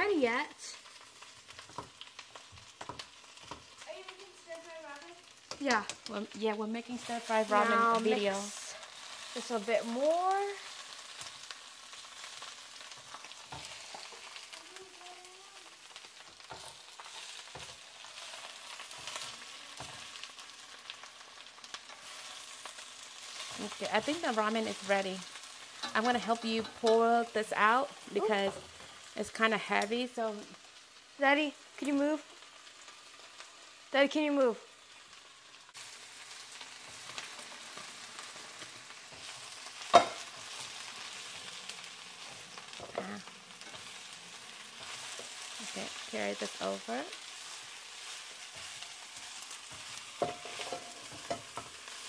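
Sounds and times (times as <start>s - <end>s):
spinach sizzling in oil: 0.0s - 52.0s.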